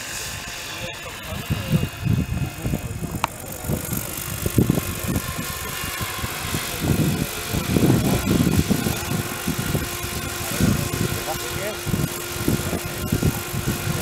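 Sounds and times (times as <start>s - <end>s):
distant helicopter rotor drone: 0.0s - 14.0s
wind buffeting microphone: 1.2s - 14.0s.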